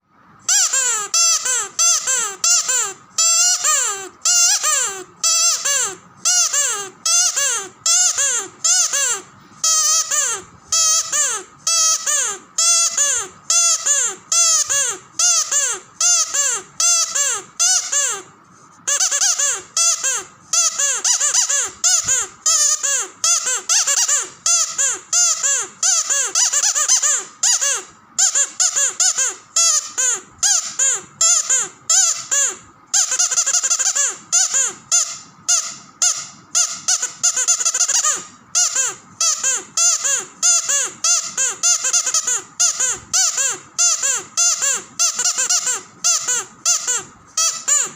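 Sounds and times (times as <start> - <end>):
squeaky dog toy squeaks: 0.4 - 47.9.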